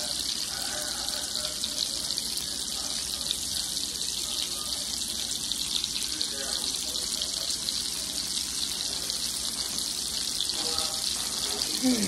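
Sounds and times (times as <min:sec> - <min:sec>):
burger patties sizzling in oil: 0:00.0 - 0:12.0.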